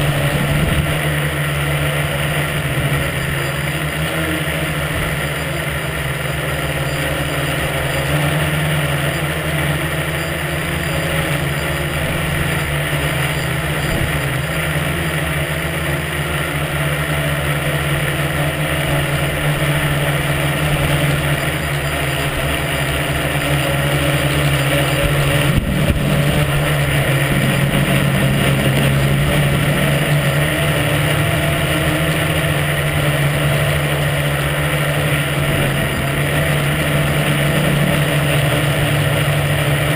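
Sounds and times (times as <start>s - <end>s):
propellers whirring: 0.0s - 39.9s.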